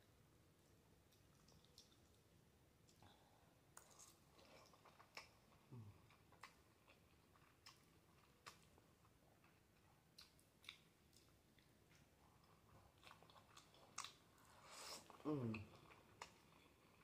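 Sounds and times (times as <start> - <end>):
soft chewing and mouth clicks: 0.5 - 17.0.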